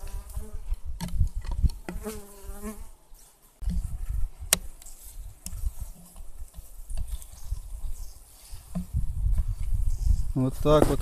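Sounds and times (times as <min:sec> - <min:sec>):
honeybees buzzing: 0:00.0 - 0:01.0, 0:01.8 - 0:10.3.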